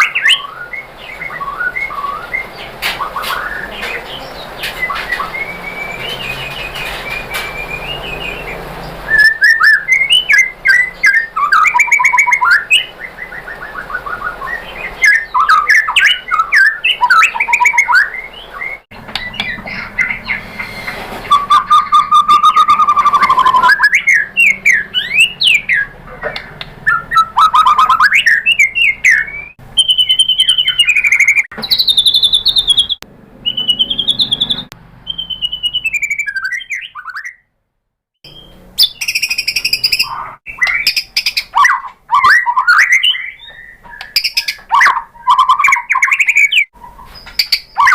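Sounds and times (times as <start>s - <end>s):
songbird singing whistled phrases: 0.0s - 37.5s, 38.2s - 47.9s.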